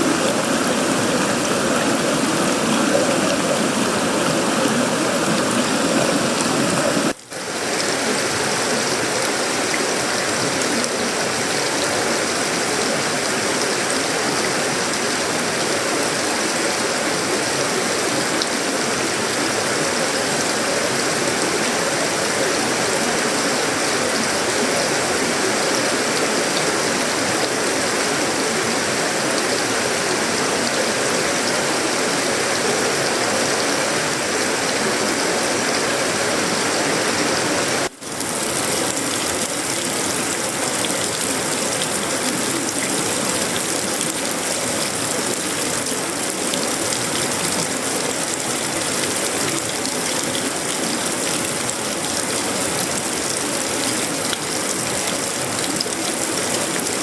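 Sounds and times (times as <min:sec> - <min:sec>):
heavy rain on metal roof: 0:00.0 - 0:57.0.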